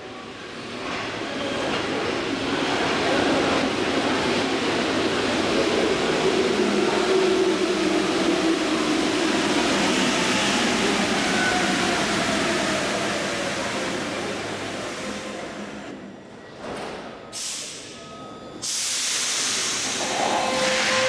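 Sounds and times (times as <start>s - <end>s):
train running noise rush: 0.0s - 17.8s, 18.6s - 21.0s.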